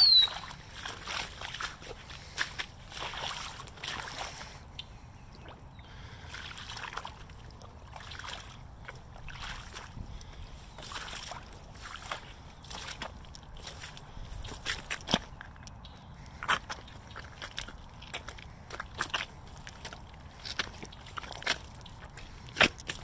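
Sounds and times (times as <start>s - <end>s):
boots squelching through mud: 0.0s - 23.0s.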